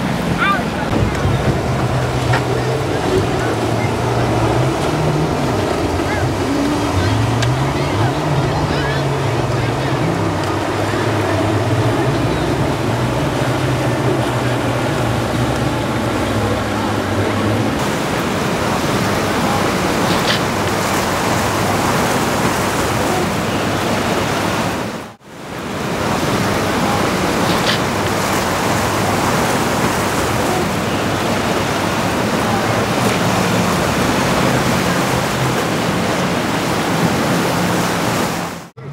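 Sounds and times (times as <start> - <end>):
wind and surf rushing: 0.0 - 38.8
boat engine low hum: 0.0 - 38.9.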